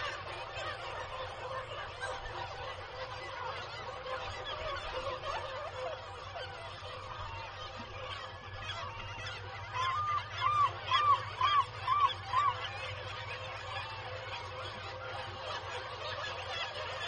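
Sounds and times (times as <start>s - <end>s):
kittiwake calling: 0.0s - 17.0s
seabird colony din: 0.0s - 17.0s.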